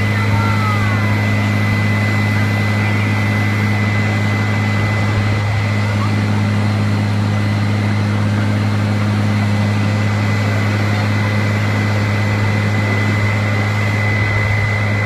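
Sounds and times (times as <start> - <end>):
fire truck engine drone: 0.0 - 15.0.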